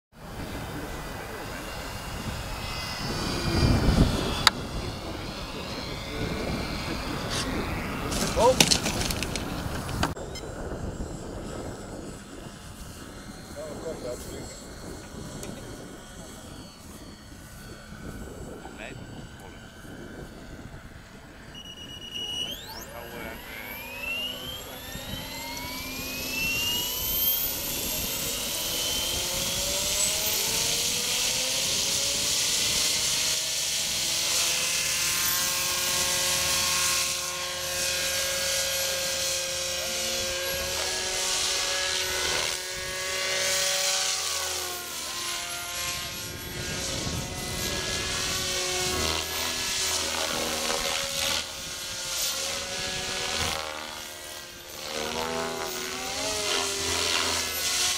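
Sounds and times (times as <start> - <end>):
helicopter rotor noise: 0.1 - 57.9
model helicopter motor whine: 0.2 - 57.9.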